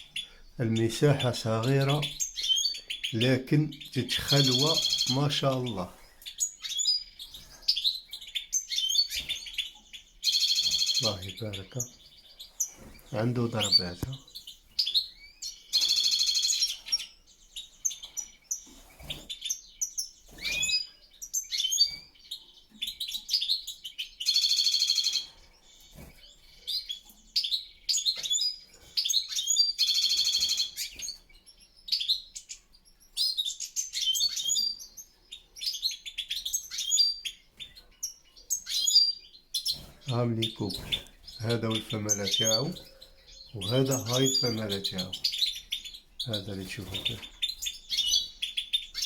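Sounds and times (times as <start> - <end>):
finches twittering: 0.0 - 49.0.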